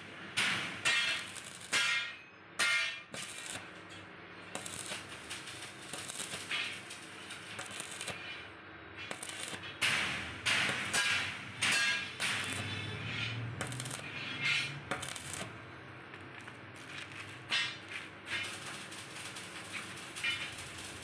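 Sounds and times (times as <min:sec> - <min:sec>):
welding arc crackling: 0:00.2 - 0:21.0.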